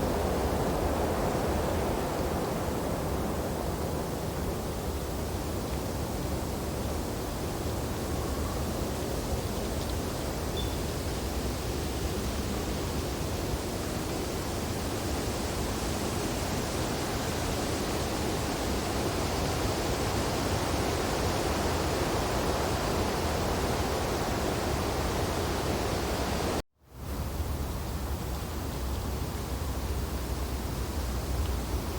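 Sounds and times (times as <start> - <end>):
wind through tree branches: 0.0 - 31.9.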